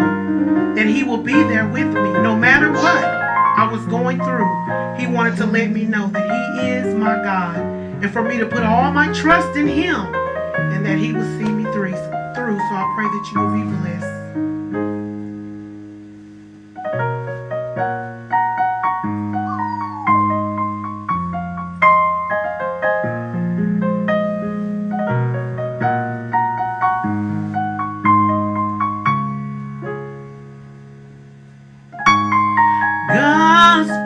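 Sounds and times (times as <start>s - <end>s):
slow gospel piano chords: 0.0s - 34.0s.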